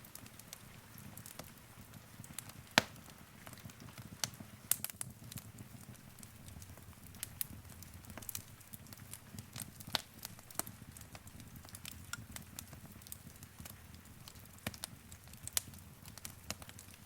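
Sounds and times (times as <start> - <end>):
low flame noise: 0.0 - 17.0
wood fire crackling: 0.0 - 17.0.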